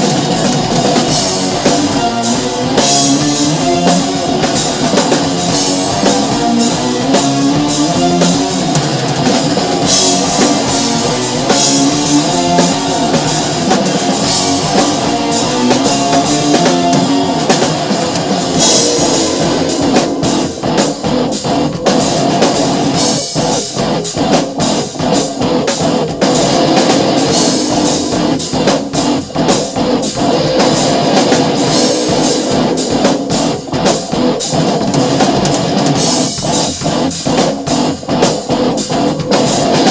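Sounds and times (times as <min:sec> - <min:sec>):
drum kit playing rock beat: 0:00.0 - 0:39.9
rock song: 0:00.0 - 0:39.9.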